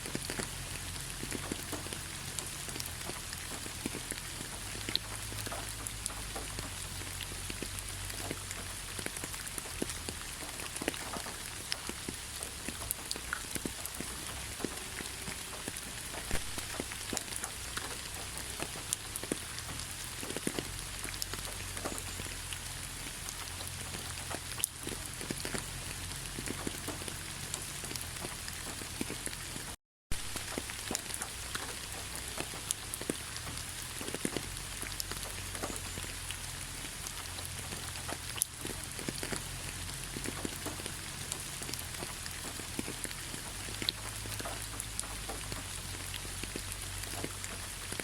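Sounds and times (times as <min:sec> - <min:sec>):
rain drops pattering: 0:00.0 - 0:48.0.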